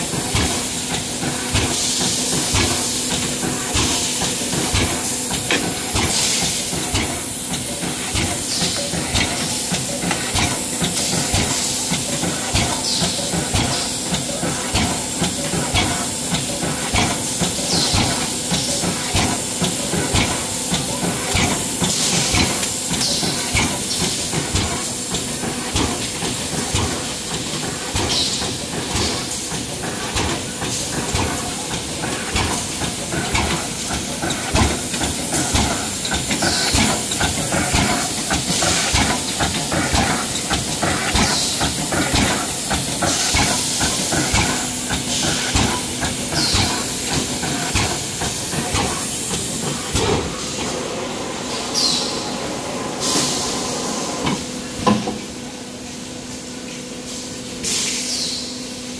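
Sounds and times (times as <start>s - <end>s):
pneumatic air puffs: 0.0s - 50.8s, 51.5s - 52.3s, 53.0s - 55.4s, 56.0s - 58.8s.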